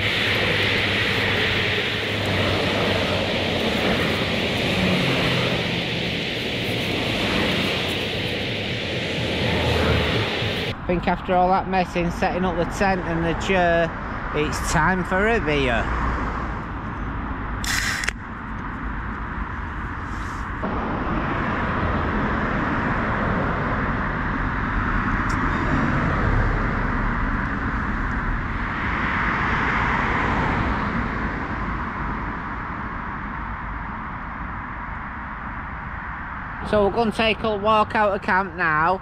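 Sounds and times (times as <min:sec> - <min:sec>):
road traffic: 0:00.0 - 0:39.0.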